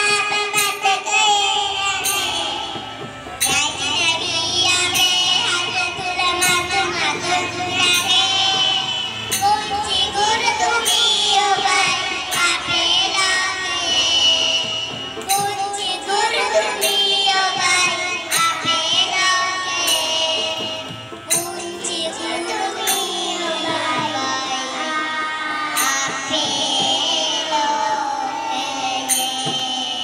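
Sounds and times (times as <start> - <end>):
children singing in unison: 0.0 - 30.0
harmonium chords: 0.0 - 30.0
sharp percussive hits: 0.0 - 30.0.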